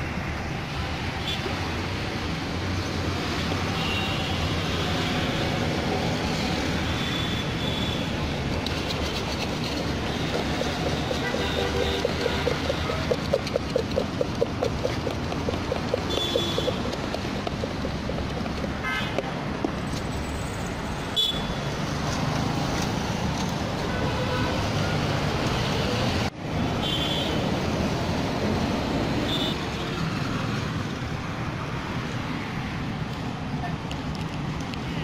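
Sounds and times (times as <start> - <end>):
street traffic rumbling: 0.0 - 35.0.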